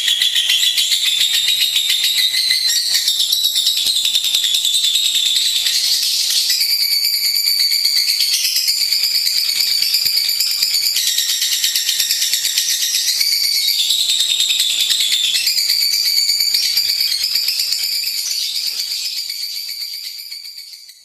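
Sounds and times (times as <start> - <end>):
lovebird chattering trill: 0.0 - 21.0.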